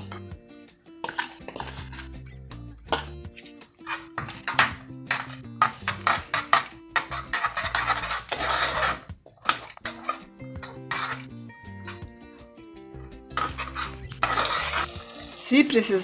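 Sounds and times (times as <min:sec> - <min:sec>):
metal spoon scraping a pan: 0:00.0 - 0:00.2, 0:01.0 - 0:02.3, 0:02.9 - 0:12.2, 0:13.0 - 0:15.3
background music: 0:00.0 - 0:16.0.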